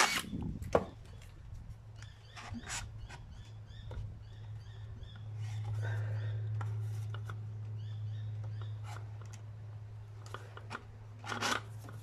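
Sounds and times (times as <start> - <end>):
birds chirping faintly: 0.0 - 10.6.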